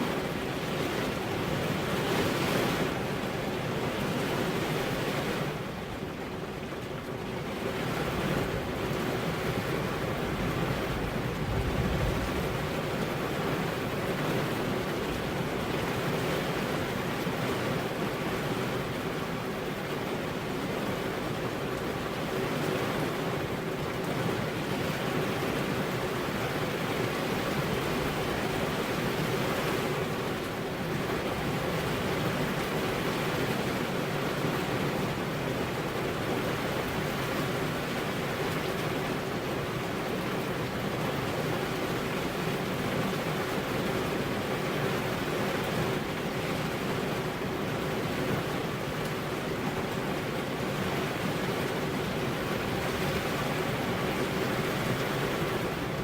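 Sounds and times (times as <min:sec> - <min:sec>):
rain on car windows: 0:00.0 - 0:56.0.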